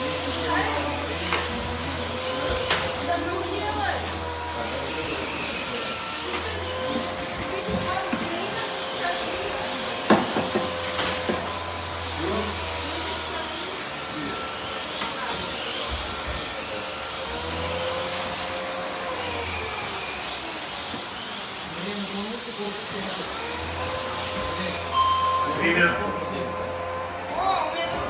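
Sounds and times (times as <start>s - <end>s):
slot car motors whining: 0.0s - 28.0s.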